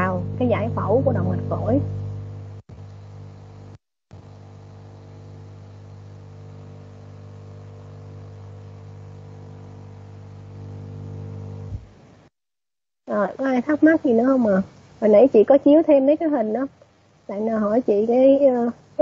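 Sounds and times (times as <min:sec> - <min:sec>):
electrical mains hum with buzz: 0:00.0 - 0:12.3, 0:13.1 - 0:19.0.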